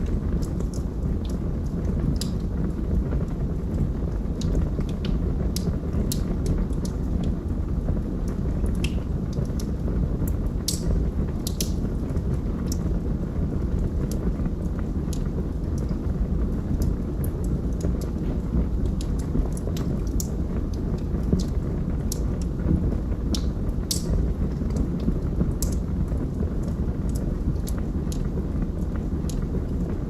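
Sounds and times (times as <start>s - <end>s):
log fire crackling and popping: 0.0s - 30.0s.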